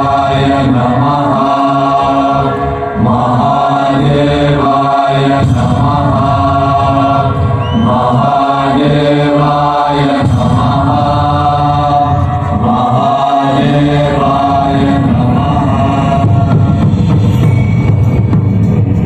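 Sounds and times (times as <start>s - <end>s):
music: 0.0s - 19.0s
voices chanting long notes: 0.0s - 19.0s.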